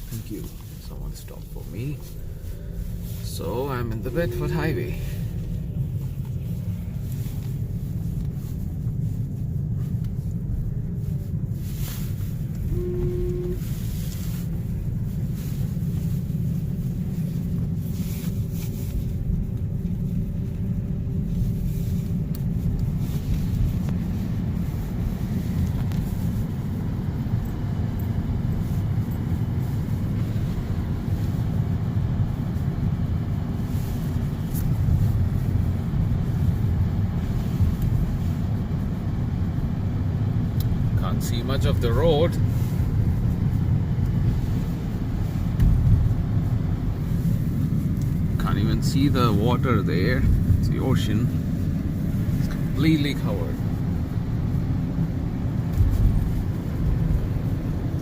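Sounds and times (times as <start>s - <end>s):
tyre and road noise in car: 0.0s - 58.0s.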